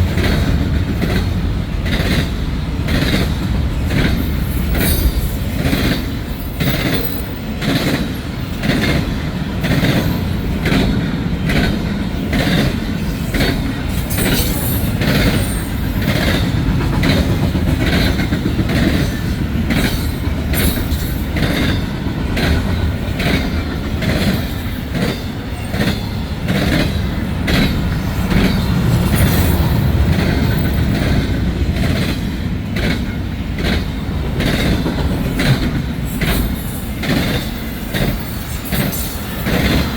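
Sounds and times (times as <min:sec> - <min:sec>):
freight train cars rumbling: 0:00.0 - 0:39.9
rhythmic train wheel clicks: 0:00.0 - 0:39.9.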